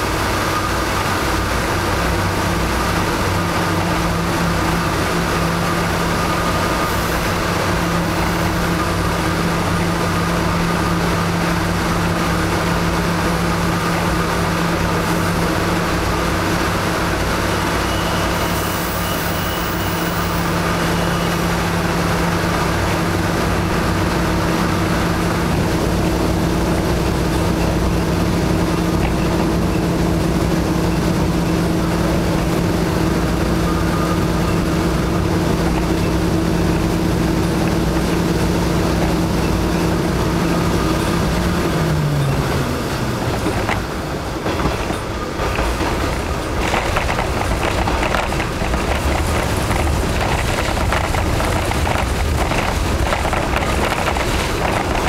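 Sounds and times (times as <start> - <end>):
diesel railcar engine humming: 0.0 - 55.0.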